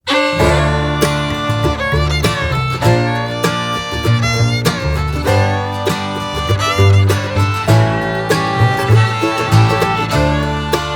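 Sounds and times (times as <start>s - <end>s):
lively instrumental music: 0.0s - 10.9s.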